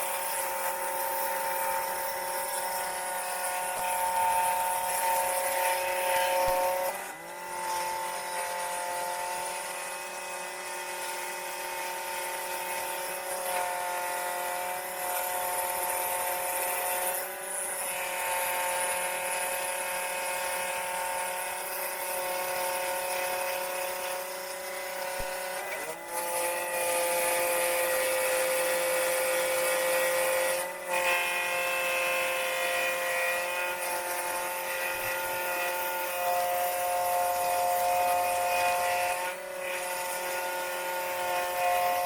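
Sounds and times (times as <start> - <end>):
scroll saw cutting wood: 0.0 - 42.0.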